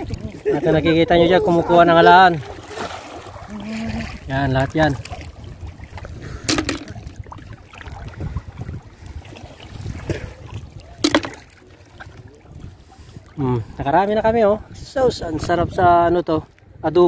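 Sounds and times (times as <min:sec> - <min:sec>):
water sloshing around waders: 0:00.0 - 0:13.8
wind on microphone: 0:00.0 - 0:17.0.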